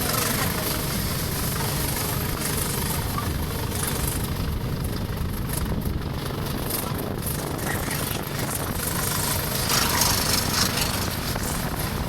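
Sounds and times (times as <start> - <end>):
railway engine rumbling: 0.0 - 12.0.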